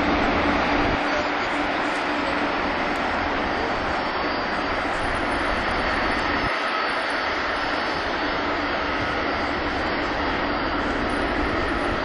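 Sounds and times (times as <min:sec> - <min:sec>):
faint jet engine whine: 0:00.0 - 0:12.0
jet engines roaring: 0:00.0 - 0:12.0.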